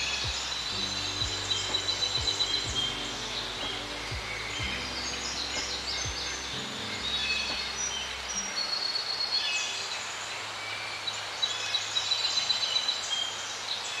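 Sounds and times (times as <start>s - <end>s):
birds singing and calling: 0.0s - 14.0s
steady background hiss: 0.0s - 14.0s.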